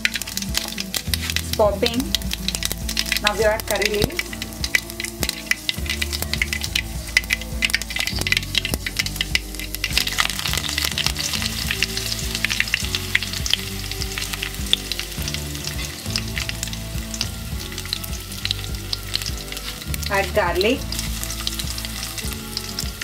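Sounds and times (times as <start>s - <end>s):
oil crackling and popping: 0.0s - 23.0s
seeds sizzling in hot oil: 0.0s - 23.0s.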